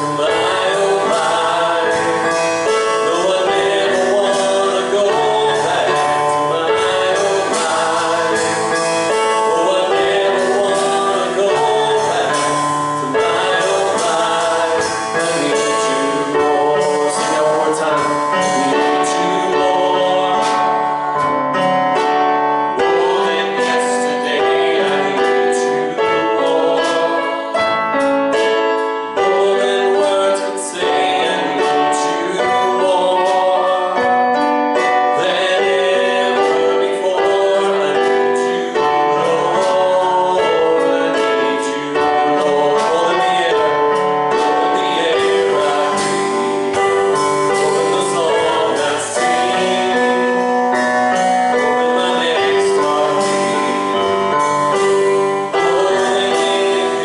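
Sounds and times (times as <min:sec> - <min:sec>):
group singing gospel song: 0:00.0 - 0:57.0
instrumental accompaniment: 0:00.0 - 0:57.0.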